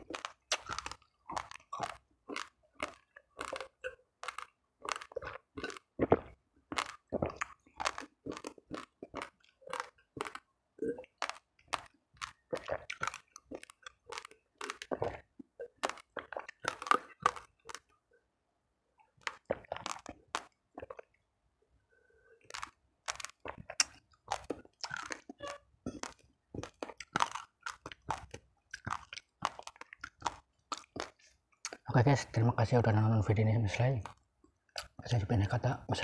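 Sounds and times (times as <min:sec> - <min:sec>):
chewing raw rice crunches: 0:00.0 - 0:18.0, 0:19.0 - 0:21.2, 0:22.4 - 0:31.9, 0:34.0 - 0:35.0.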